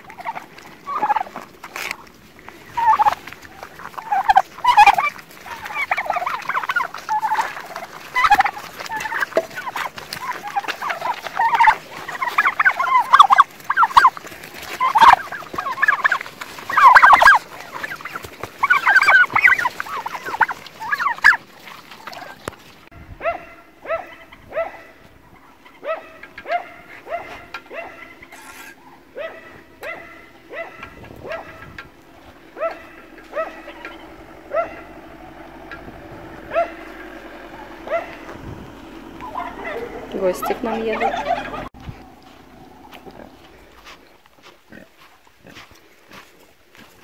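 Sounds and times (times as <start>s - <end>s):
fowl gobbling calls: 0.0s - 46.3s.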